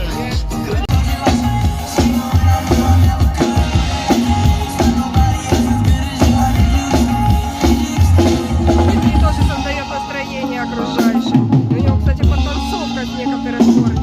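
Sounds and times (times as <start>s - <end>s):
drum kit beat: 0.0s - 14.0s
repeating bass line: 0.0s - 14.0s.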